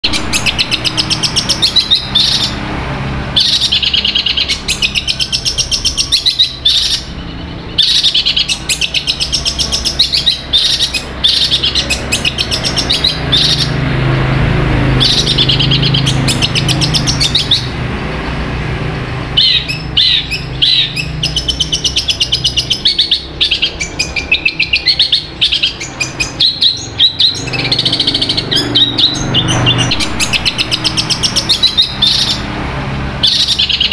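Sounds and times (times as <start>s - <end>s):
bird singing rapid chirps: 0.0s - 33.9s.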